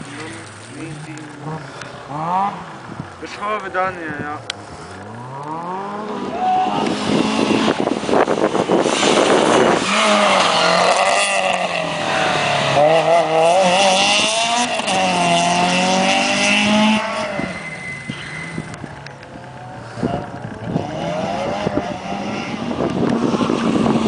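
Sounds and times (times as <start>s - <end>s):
rally car engine revving past: 0.0s - 2.9s, 4.4s - 24.0s.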